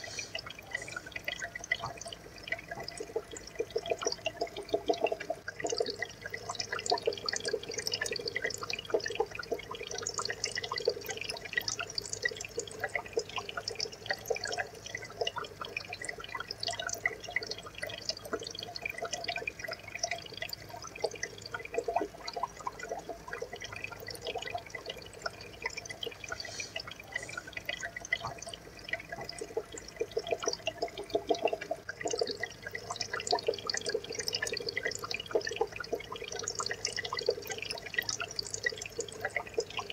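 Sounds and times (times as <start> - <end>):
aquarium water trickling and bubbling: 0.0 - 39.9.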